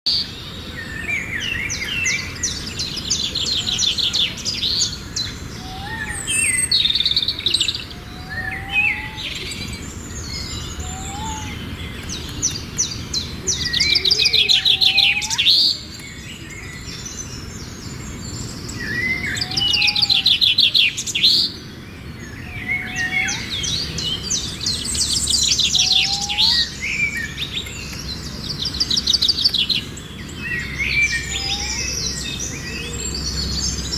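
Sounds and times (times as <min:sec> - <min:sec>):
birds trilling and chattering: 0:00.1 - 0:33.9.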